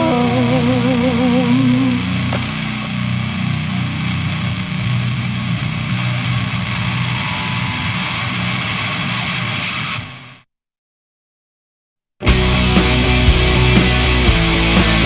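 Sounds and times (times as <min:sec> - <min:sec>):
heavy rock music: 0:00.0 - 0:10.4, 0:12.2 - 0:15.0.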